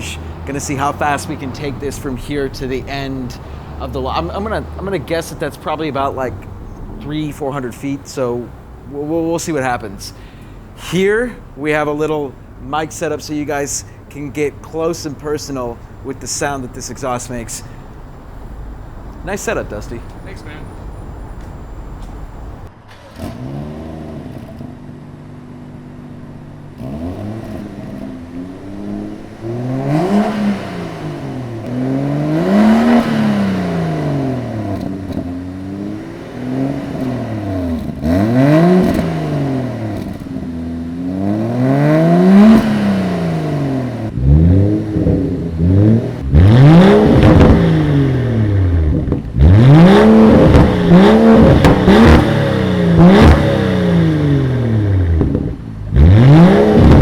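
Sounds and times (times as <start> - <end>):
car exhaust revving: 0.0 - 57.0.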